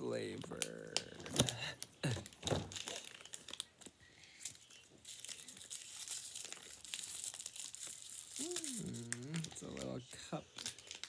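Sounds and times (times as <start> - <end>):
plastic wrappers crinkling and tearing: 0.3 - 11.0.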